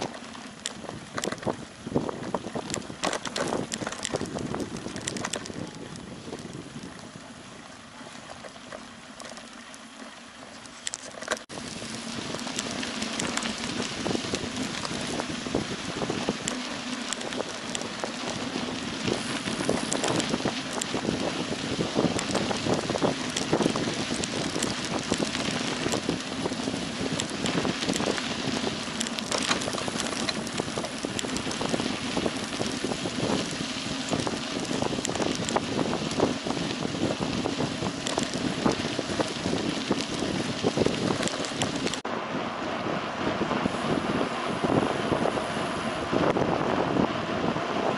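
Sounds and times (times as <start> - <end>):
wind buffeting microphone: 0.0 - 8.4, 11.5 - 47.9
bike tyres crackling over sand: 0.0 - 47.9
bikes rattling: 0.0 - 47.9.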